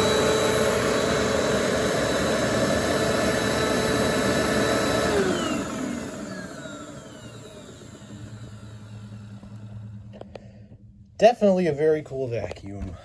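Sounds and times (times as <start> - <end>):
vacuum cleaner motor whine: 0.0 - 11.2.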